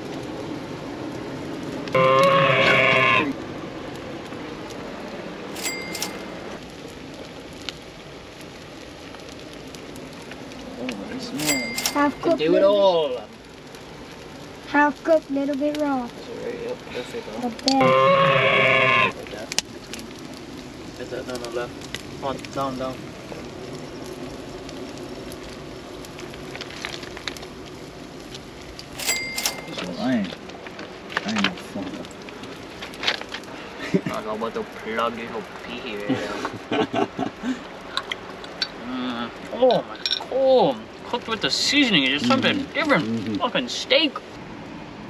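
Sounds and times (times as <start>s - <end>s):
fish sizzling on grill: 0.0s - 45.0s
wood fire crackling: 0.0s - 45.0s.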